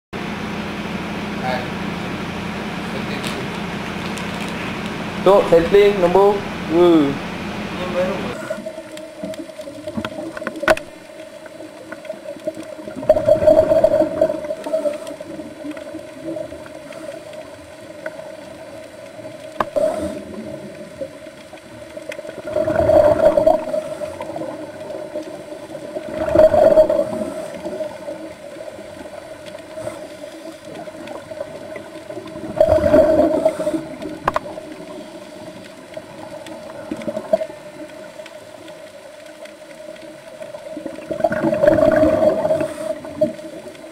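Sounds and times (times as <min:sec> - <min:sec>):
steady hum: 0:00.2 - 0:40.4
gurgling exhaled bubbles: 0:02.7 - 0:38.5, 0:39.8 - 0:43.9.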